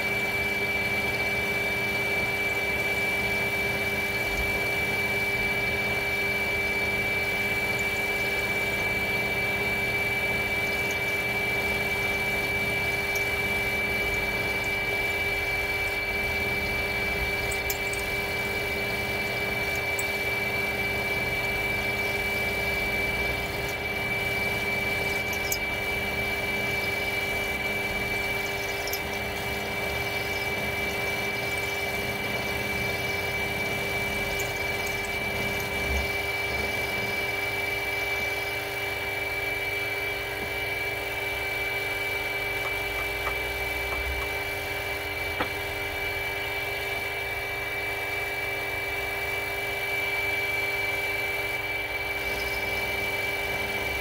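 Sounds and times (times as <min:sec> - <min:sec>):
milling machine whine: 0:00.0 - 0:54.0.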